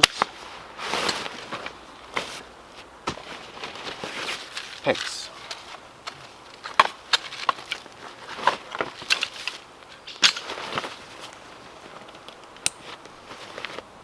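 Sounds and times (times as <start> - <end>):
tent gear rustling: 0.0 - 14.0.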